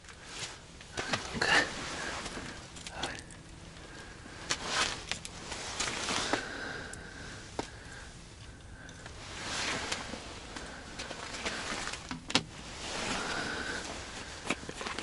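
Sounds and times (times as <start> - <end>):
clothing rustling: 0.0 - 15.0.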